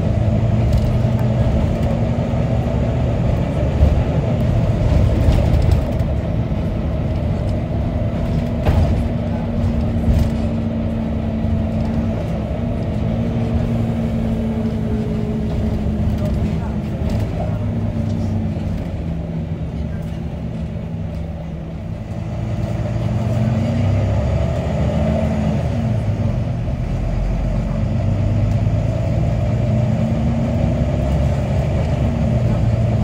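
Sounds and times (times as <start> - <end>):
bus engine and road noise: 0.0 - 33.0.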